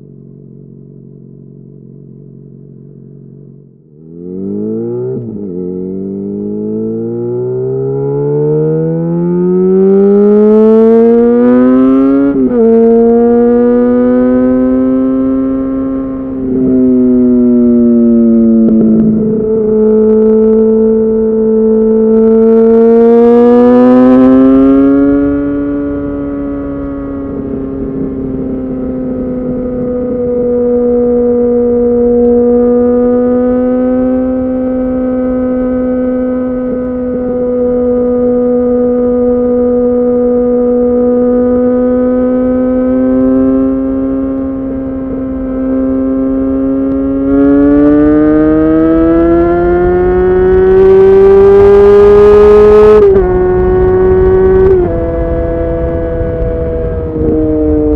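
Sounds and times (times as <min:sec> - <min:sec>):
motorcycle engine riding: 0:00.0 - 0:57.9.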